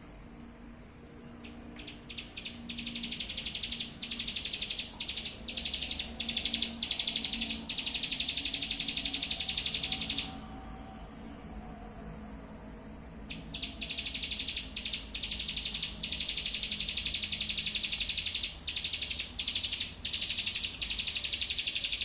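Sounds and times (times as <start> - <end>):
songbird trilling song: 1.3 - 10.7, 12.7 - 22.0.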